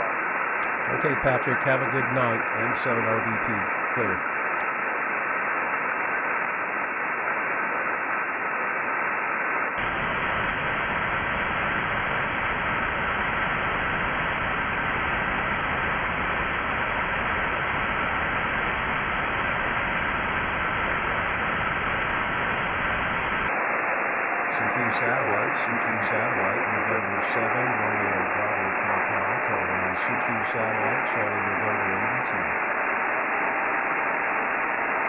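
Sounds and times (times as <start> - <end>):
radio receiver hiss: 0.0 - 35.0.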